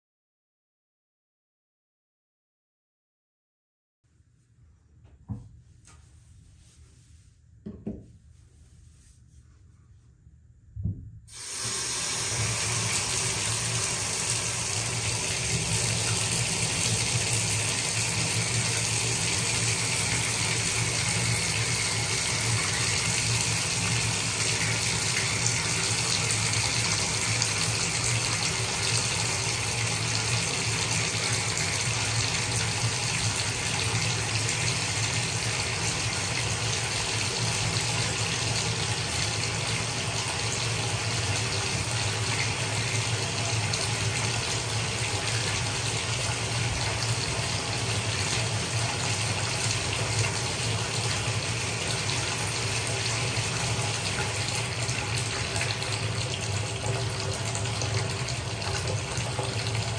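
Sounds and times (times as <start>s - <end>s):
faucet water rushing into tub: 11.3s - 59.9s.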